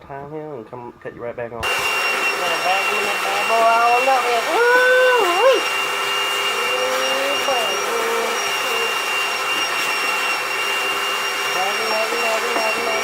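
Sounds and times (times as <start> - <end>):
vacuum cleaner whining: 1.6 - 13.0.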